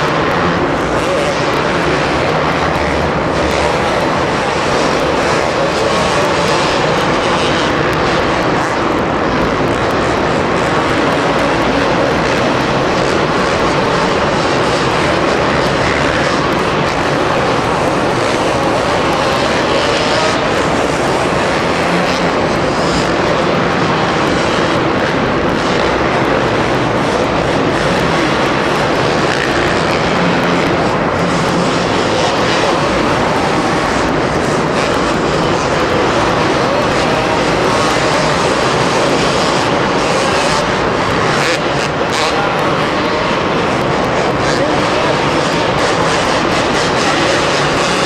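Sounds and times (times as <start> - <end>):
motocross motorcycle engines: 0.0 - 48.0.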